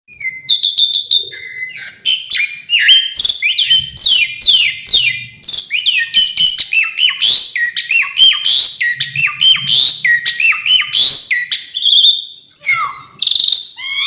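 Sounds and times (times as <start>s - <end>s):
starling singing whistles: 0.1s - 14.0s.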